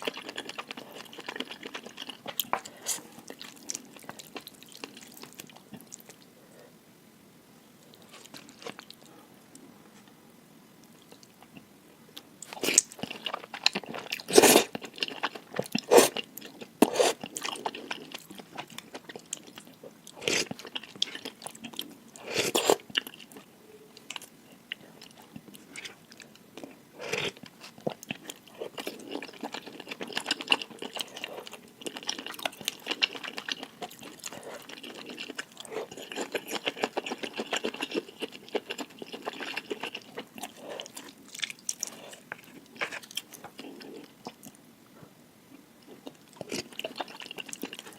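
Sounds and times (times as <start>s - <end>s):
soft chewing: 0.0s - 6.7s, 7.8s - 10.2s, 10.8s - 47.9s.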